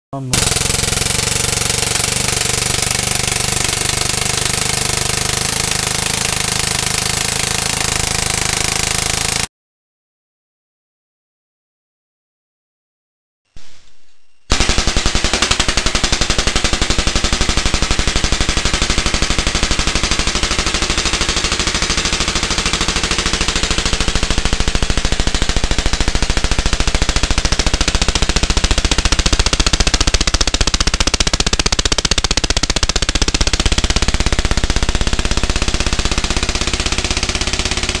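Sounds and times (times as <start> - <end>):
bb gun rapid firing: 0.3 - 9.5, 14.5 - 38.0.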